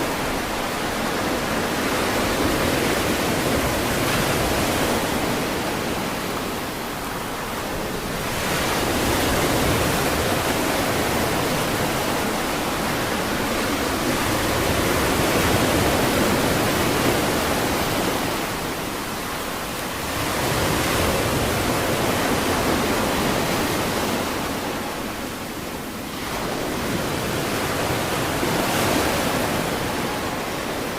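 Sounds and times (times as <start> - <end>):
ocean surf on beach: 0.0 - 30.9.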